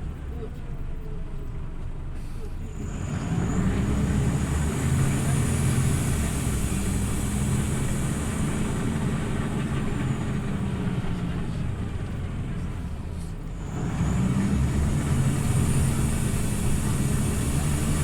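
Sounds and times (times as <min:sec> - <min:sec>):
bus engine humming: 0:00.0 - 0:18.0.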